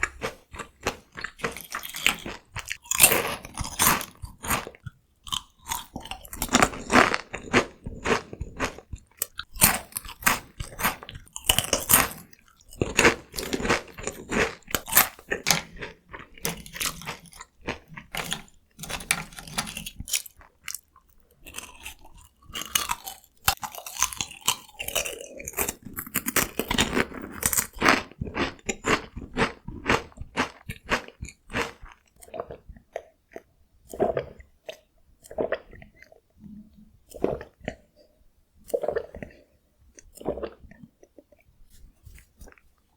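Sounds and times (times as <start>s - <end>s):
crunching and chewing snacks: 0.0s - 36.3s, 38.6s - 42.9s.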